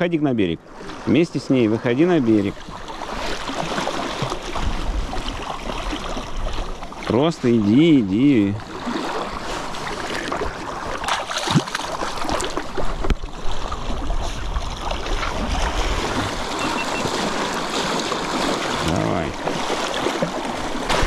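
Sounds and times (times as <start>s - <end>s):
water rushing and splashing: 0.6s - 21.0s.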